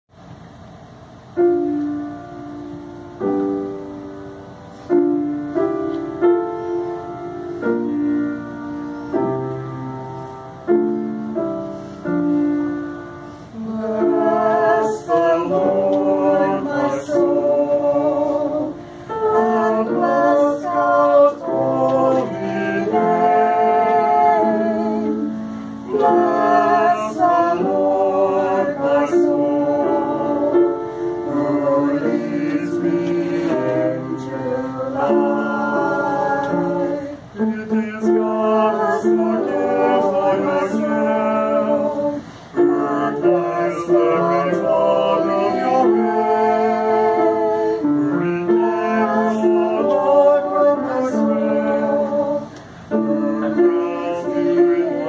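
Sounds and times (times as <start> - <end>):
piano chords: 0.1 - 55.0
choir singing: 5.0 - 55.0.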